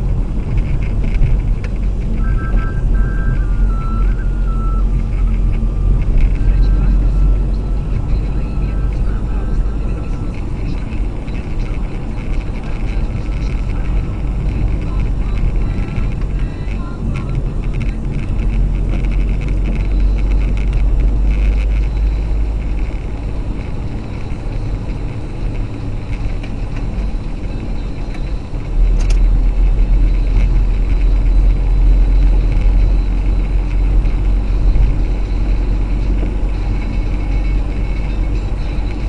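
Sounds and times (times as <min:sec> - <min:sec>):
car engine and tyre rumble: 0:00.0 - 0:39.0.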